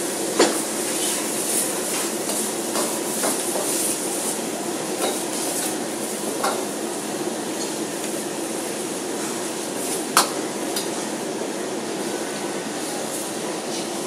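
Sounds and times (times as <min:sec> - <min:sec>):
frying hiss: 0:00.0 - 0:14.0.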